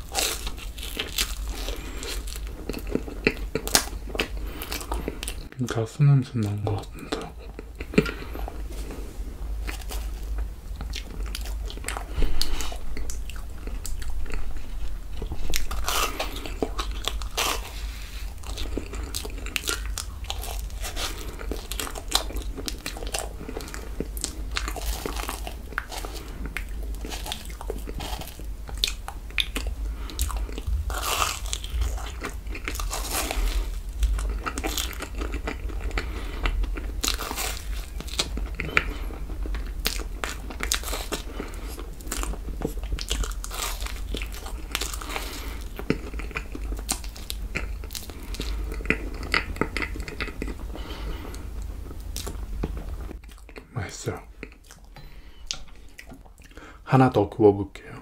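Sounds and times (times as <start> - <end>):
crackles and mouth clicks: 0.0 - 56.7
biting and chewing marshmallows: 0.0 - 56.8.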